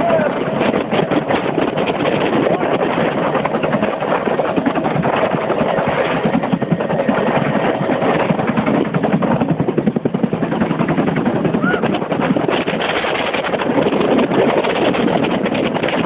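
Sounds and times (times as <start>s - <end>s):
helicopter rotor and turbine noise: 0.0s - 16.0s.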